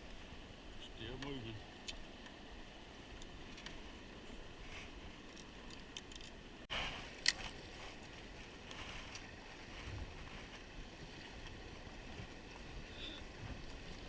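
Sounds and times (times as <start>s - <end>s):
faint outdoor noise: 0.0s - 14.0s.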